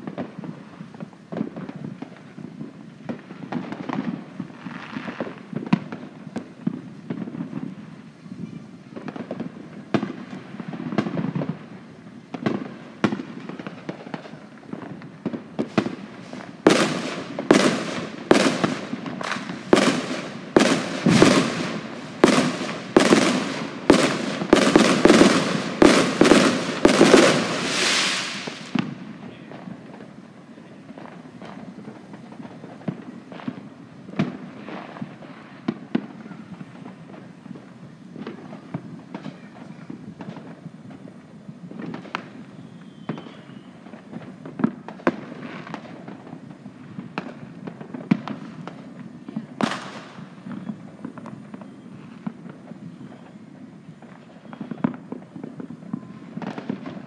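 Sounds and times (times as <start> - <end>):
fireworks bangs: 0.0 - 57.0
fireworks crackling hiss: 0.0 - 57.0.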